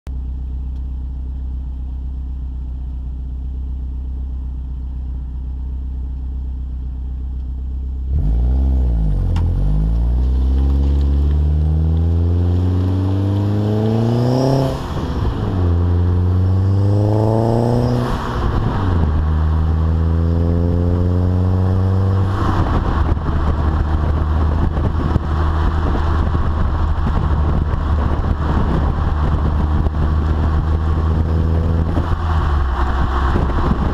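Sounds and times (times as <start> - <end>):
car exhaust droning: 0.1 - 33.9.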